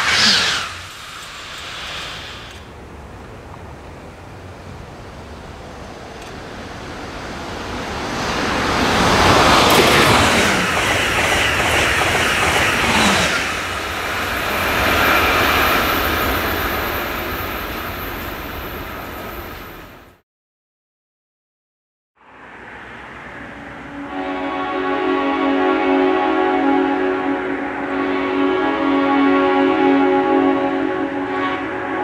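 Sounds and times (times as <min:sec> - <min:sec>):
high-speed electric train passing: 0:00.0 - 0:20.2, 0:22.2 - 0:32.0.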